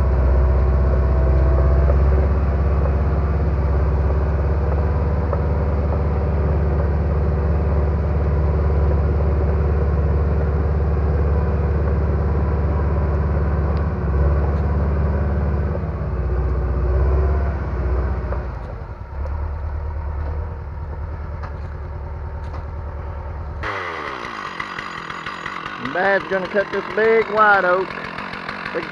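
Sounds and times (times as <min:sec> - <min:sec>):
heavy machine engine running: 0:00.0 - 0:28.9.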